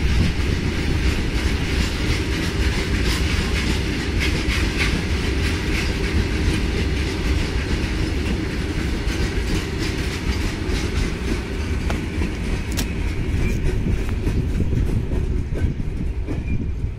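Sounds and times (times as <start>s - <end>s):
freight wagon wheels rumbling: 0.0s - 16.9s.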